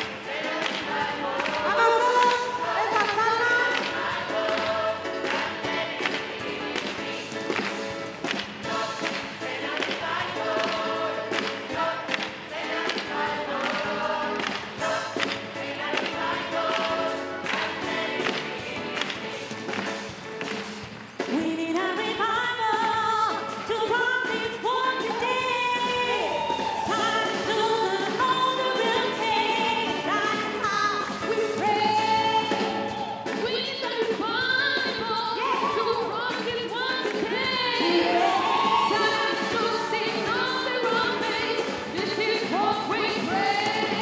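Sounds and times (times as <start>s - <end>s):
gospel choir singing: 0.0s - 20.1s, 24.2s - 34.1s, 35.3s - 44.0s
drums: 0.0s - 44.0s
keyboard: 0.0s - 44.0s.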